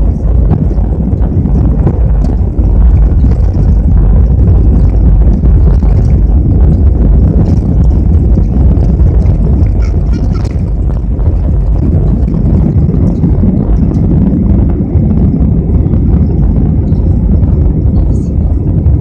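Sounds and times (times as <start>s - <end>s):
jet engines roaring: 0.0s - 19.0s
runway rumble: 0.0s - 19.0s.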